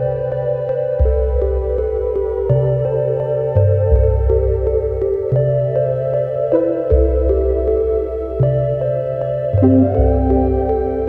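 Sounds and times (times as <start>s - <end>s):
ambient synthesizer music: 0.0s - 11.0s.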